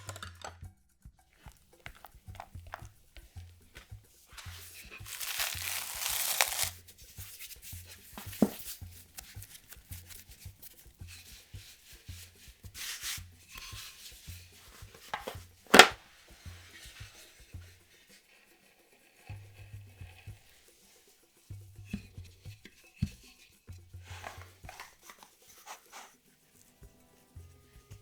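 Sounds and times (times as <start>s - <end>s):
soft background music with beat: 0.1s - 28.0s
rustling: 1.4s - 21.5s, 23.2s - 27.4s.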